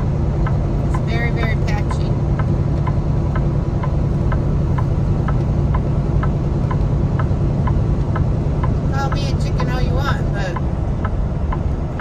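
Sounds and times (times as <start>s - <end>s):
truck engine and road rumble: 0.0s - 12.0s
light even ticking: 0.2s - 12.0s.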